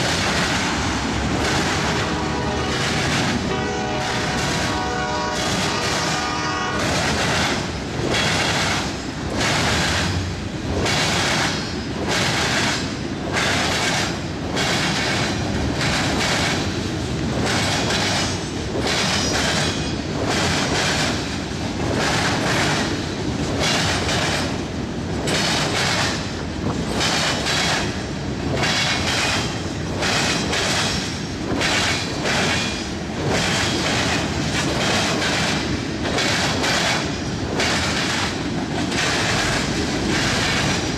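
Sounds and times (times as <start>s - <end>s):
train rolling rumble: 0.0s - 40.9s
train wheels clattering over joints: 0.0s - 40.9s.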